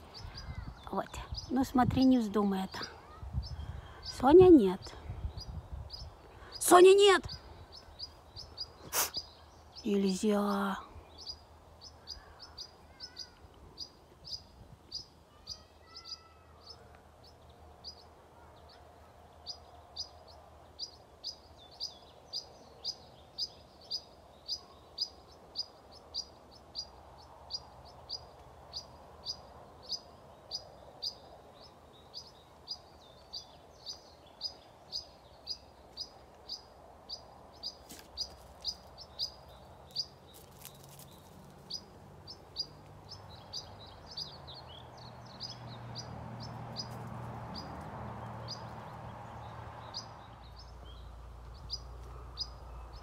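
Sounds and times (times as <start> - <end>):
small bird chirping: 0.0 - 53.0.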